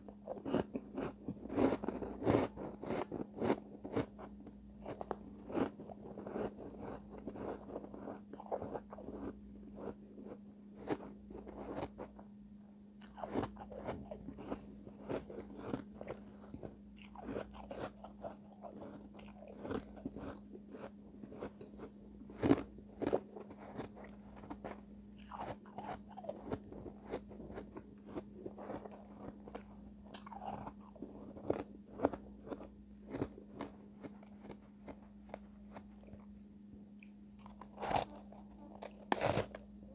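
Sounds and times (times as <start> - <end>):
ice being crunched and chewed: 0.1 - 12.1, 13.0 - 36.3, 36.9 - 39.7.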